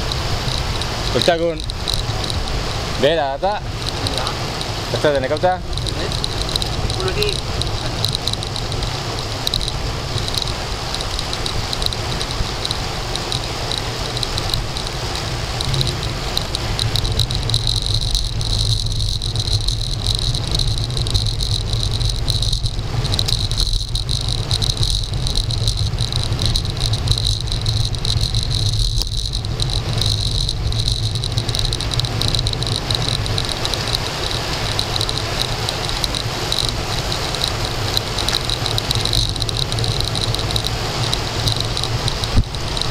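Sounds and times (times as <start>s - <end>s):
bicycle road rumble: 0.0s - 42.9s
wind rushing over camera: 0.0s - 42.9s.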